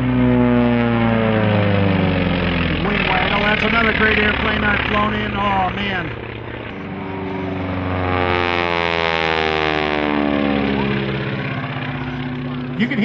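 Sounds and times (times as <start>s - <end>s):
propeller airplane flying past: 0.0s - 13.0s.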